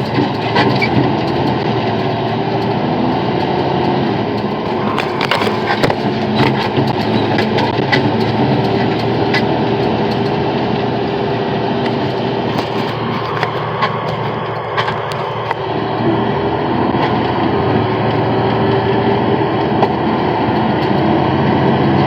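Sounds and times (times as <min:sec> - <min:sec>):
truck engine running: 0:00.0 - 0:22.0
truck rattles and knocks: 0:00.0 - 0:22.0.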